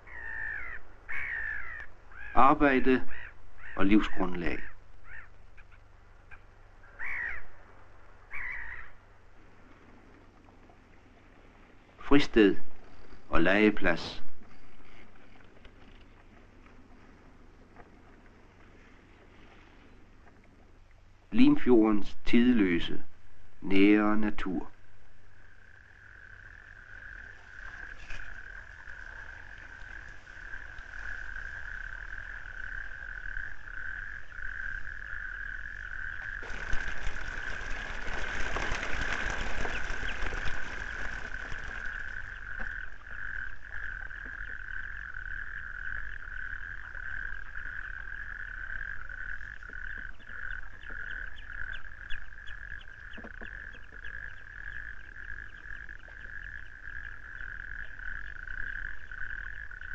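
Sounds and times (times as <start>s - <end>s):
frogs calling: 0.0s - 59.9s.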